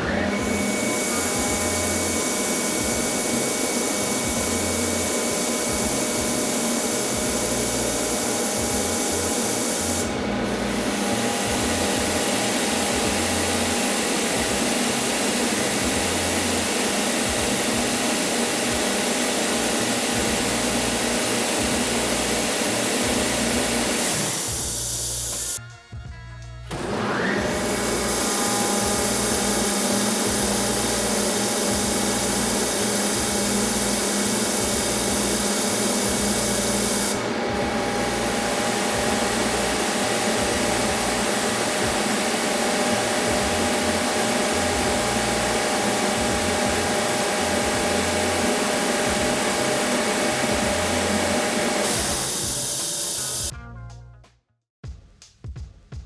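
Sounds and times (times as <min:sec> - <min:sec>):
air compressor whirring and hissing: 0:00.0 - 0:25.6, 0:26.7 - 0:53.5.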